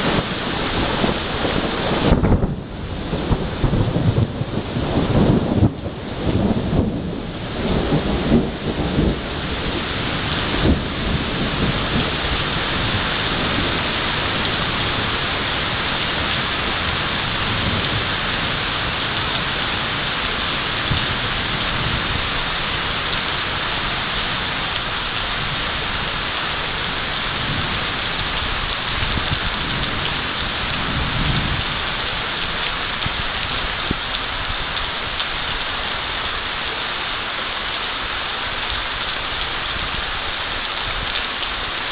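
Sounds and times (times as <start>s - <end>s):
thunder rumbling: 0.0s - 36.7s
heavy rain pouring: 0.0s - 41.9s.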